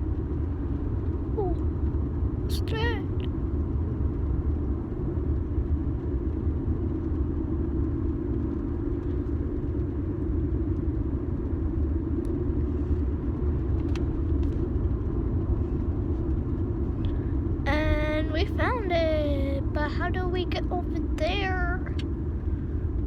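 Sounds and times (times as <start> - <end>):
car interior road noise: 0.0 - 23.0.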